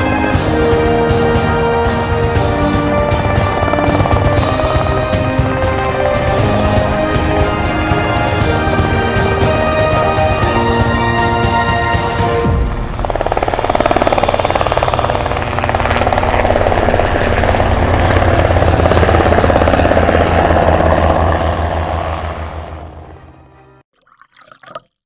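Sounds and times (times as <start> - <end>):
helicopter blades chopping: 0.0 - 23.1.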